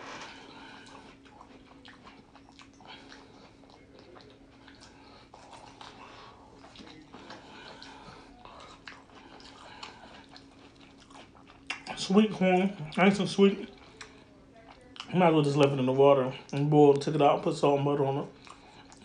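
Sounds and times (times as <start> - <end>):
person chewing corn: 0.0 - 15.8, 18.3 - 19.0
low steady hum: 0.0 - 19.0.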